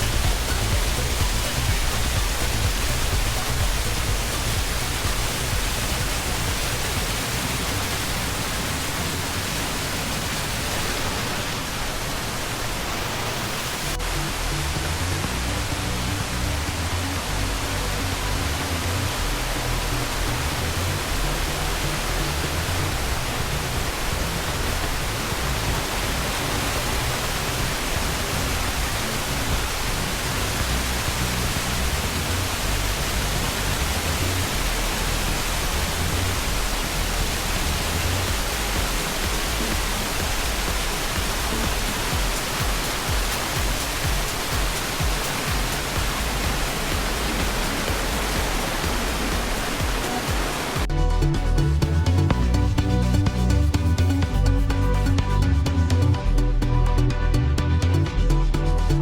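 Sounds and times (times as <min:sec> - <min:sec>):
background music: 0:00.0 - 0:11.6, 0:13.2 - 0:59.0
waterfall rushing: 0:00.0 - 0:52.8.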